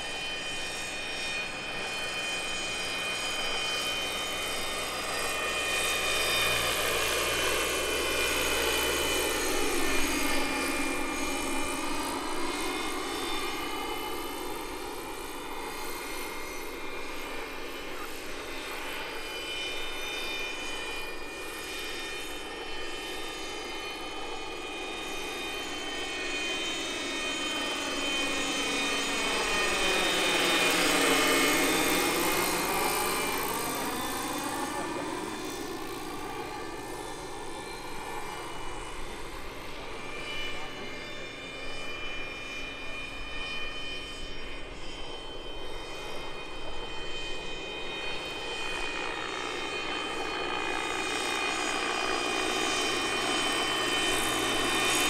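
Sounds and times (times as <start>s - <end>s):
high turbine-like whine: 0.0s - 55.0s
model helicopter rotor noise: 0.0s - 55.0s.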